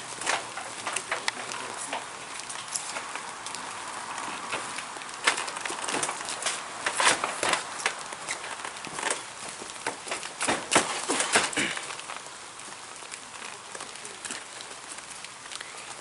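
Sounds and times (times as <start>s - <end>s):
light rain hiss: 0.0s - 16.0s.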